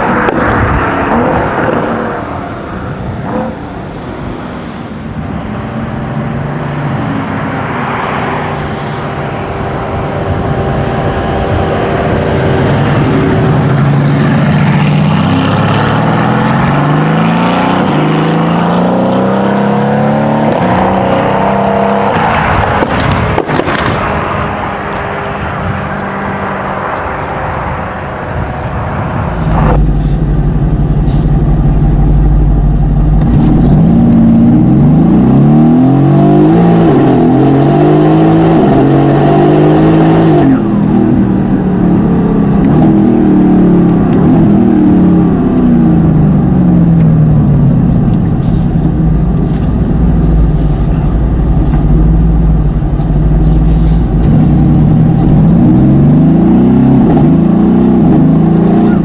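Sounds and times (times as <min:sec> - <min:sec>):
deep steady engine note: 0:00.0 - 0:21.8, 0:22.5 - 0:59.0
car engine accelerating hard: 0:00.0 - 0:59.0.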